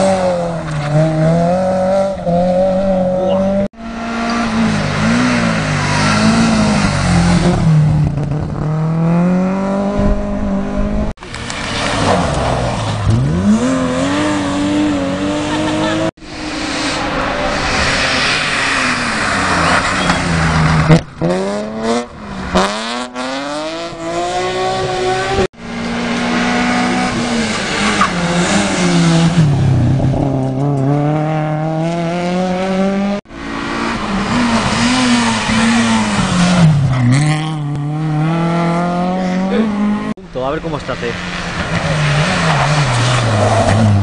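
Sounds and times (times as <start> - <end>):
rally car engines passing: 0.0 - 44.0.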